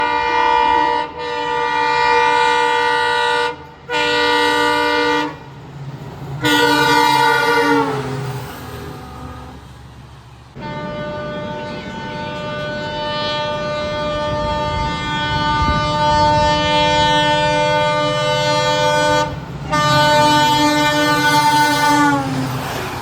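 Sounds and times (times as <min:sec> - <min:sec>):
locomotive horn blasts: 0:00.0 - 0:05.4, 0:06.4 - 0:08.2, 0:10.6 - 0:22.4
train rumbling: 0:00.0 - 0:23.0.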